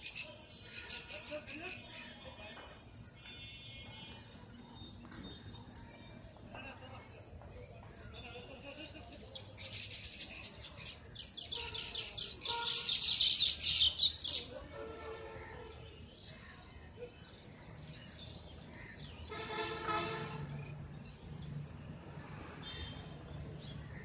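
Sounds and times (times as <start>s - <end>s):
birds chattering: 0.0s - 14.6s, 15.4s - 21.2s.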